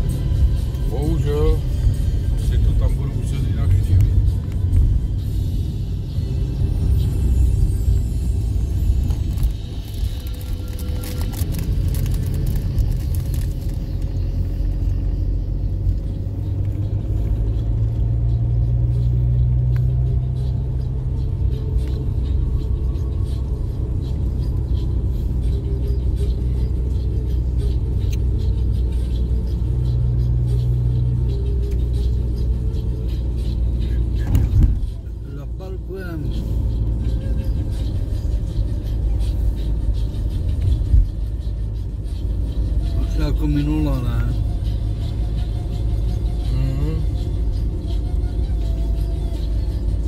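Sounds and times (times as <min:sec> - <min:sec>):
car engine rumble: 0:00.0 - 0:50.0.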